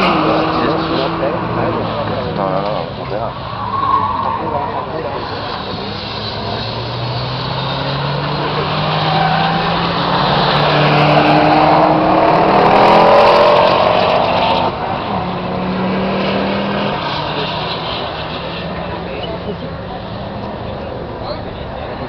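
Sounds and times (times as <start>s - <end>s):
turbocharged car engine revving: 0.0s - 3.4s, 4.0s - 20.9s.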